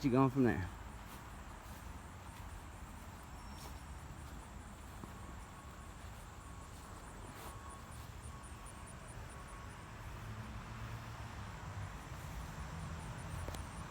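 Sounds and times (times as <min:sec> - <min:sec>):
insects chirping: 0:00.0 - 0:13.9.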